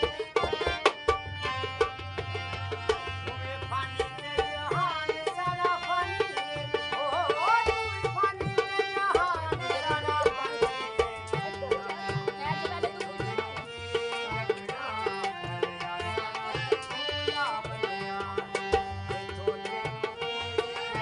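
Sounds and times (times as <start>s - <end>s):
hand drum rhythm: 0.0s - 21.0s
harmonium playing chords: 0.0s - 21.0s
person singing: 3.3s - 21.0s.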